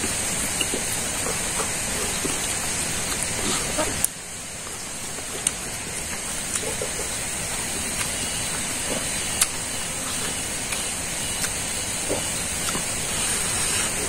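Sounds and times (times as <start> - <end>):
steady hiss: 0.0 - 14.0
man chewing with lip smacks: 0.4 - 14.0.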